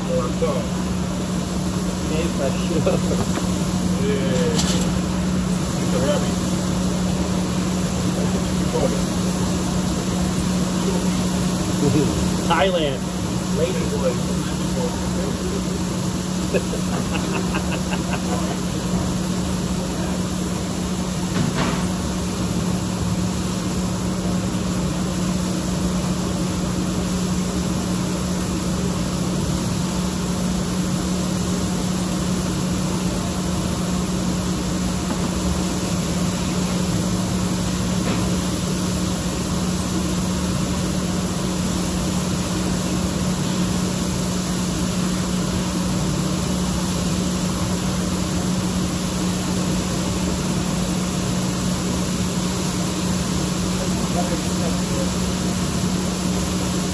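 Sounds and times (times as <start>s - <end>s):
machine hum: 0.0s - 56.9s.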